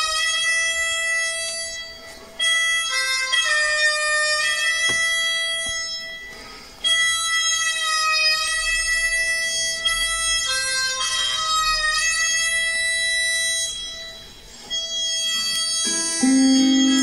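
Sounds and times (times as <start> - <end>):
harmonica playing slow tune: 0.0 - 17.0.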